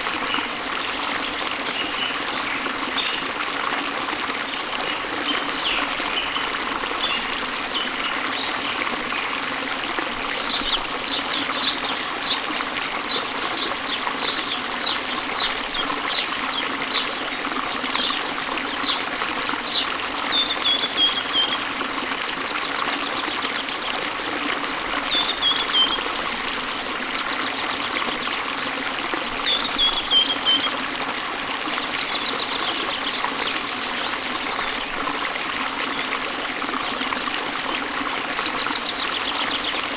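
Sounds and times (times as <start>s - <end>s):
waterfall running: 0.0s - 39.9s.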